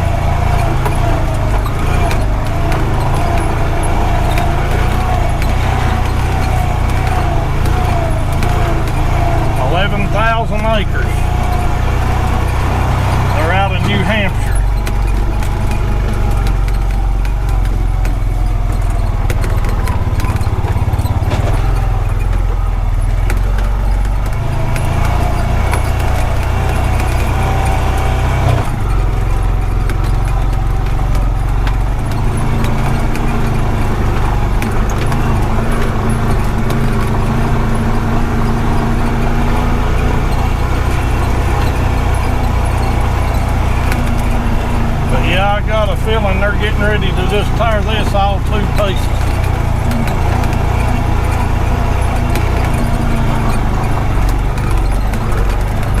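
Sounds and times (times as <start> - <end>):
light rattling: 0.0 - 56.0
vehicle engine rumbling: 0.0 - 56.0.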